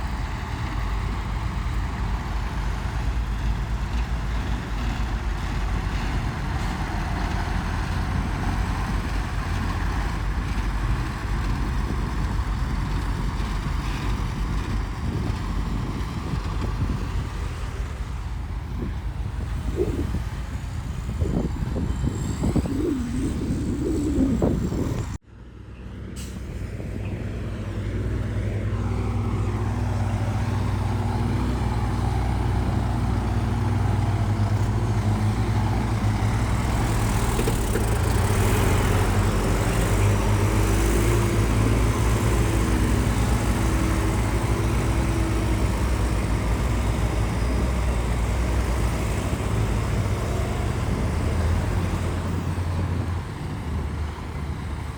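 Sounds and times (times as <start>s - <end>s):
heavy diesel machinery rumbling: 0.0s - 54.9s.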